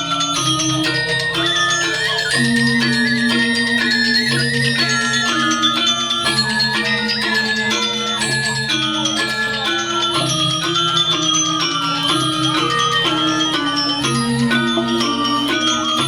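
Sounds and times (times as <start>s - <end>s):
gamelan music: 0.0s - 16.0s.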